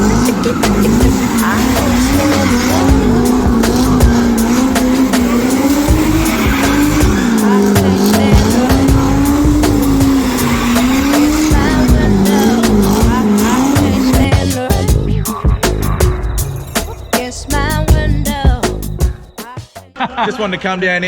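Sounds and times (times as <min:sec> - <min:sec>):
car engine revving high: 0:00.0 - 0:18.6
tyres squealing: 0:00.0 - 0:19.4.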